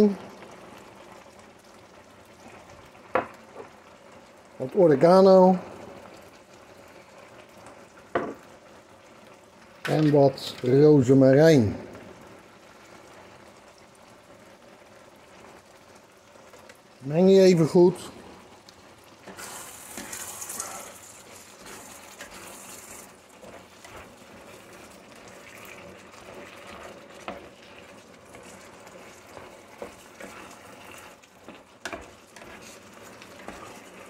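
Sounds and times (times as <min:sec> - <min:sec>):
food simmering and sloshing: 0:00.0 - 0:10.9, 0:11.6 - 0:34.0.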